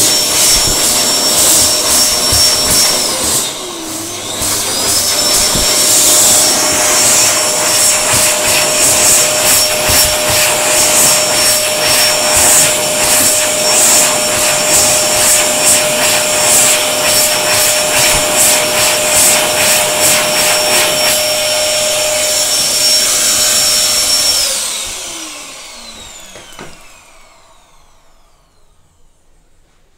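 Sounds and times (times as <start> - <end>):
electric hand dryer blowing: 0.0 - 29.5.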